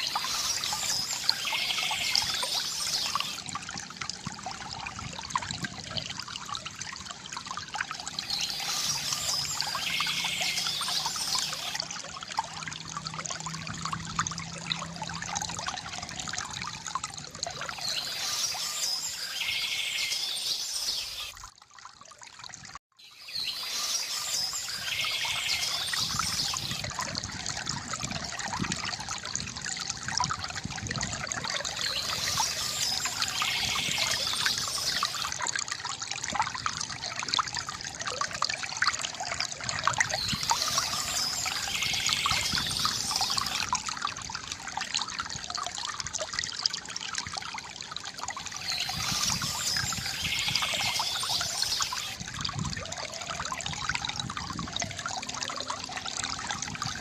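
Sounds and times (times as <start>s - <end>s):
water trickling from fountain: 0.0s - 57.0s.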